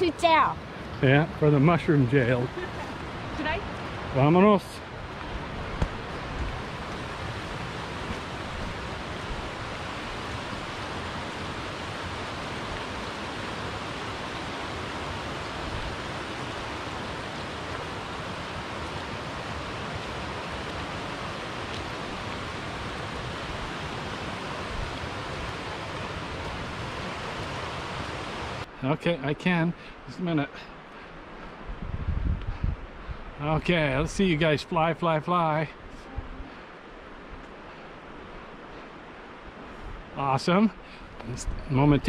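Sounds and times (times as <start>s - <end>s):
river rushing: 0.0s - 31.8s, 32.9s - 42.0s.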